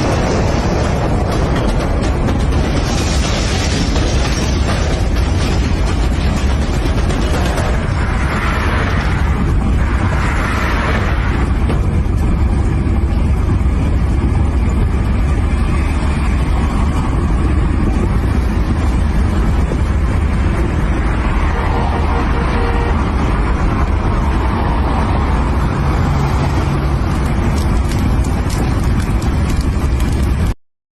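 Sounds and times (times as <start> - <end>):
strong wind buffeting microphone: 0.0 - 30.6.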